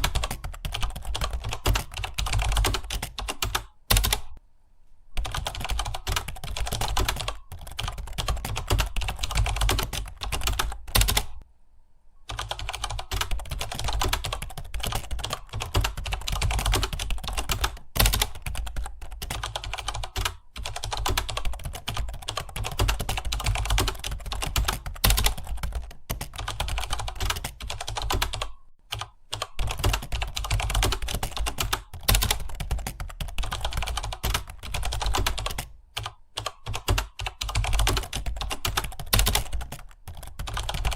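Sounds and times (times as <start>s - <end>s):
fast keyboard typing: 0.0s - 4.4s, 5.2s - 11.4s, 12.3s - 40.9s.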